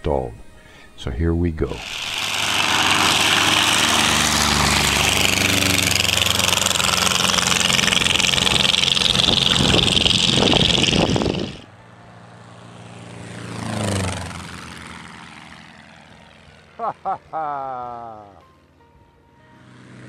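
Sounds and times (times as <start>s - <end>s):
light aircraft engine running: 1.7s - 20.0s
propeller plane fly-by: 1.7s - 20.0s.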